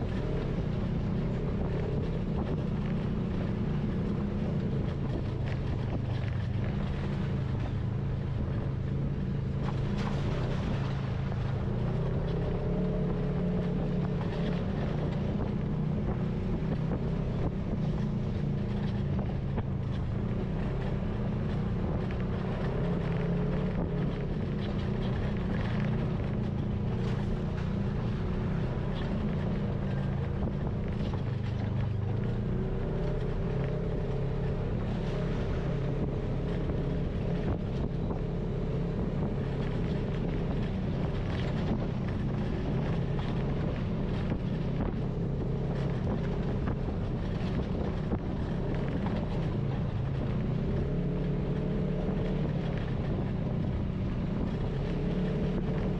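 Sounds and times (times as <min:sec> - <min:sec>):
off-road vehicle engine running: 0:00.0 - 0:55.9
wind buffeting microphone: 0:00.0 - 0:55.9.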